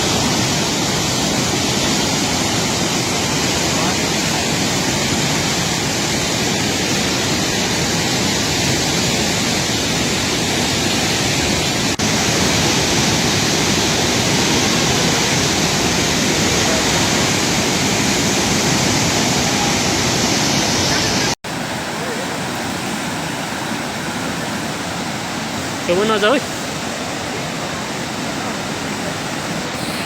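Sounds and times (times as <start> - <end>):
flooding river rushing: 0.0 - 30.0.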